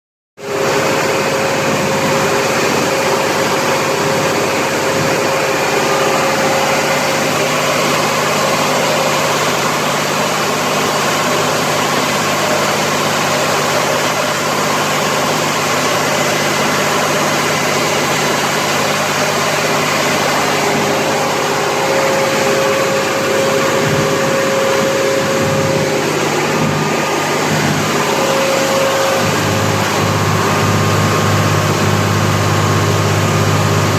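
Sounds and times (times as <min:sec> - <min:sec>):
diesel generator running: 0:00.4 - 0:33.9.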